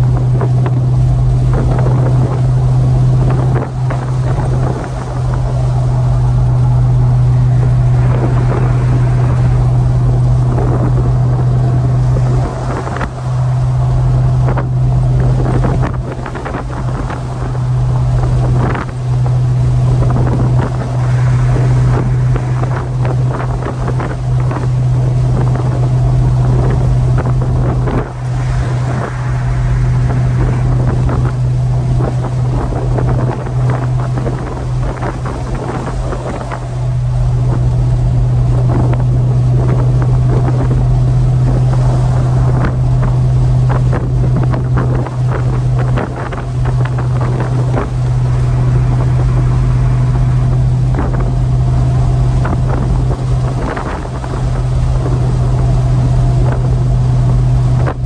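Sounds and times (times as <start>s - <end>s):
car engine droning: 0.0s - 58.0s
wind noise on microphone: 0.0s - 58.0s.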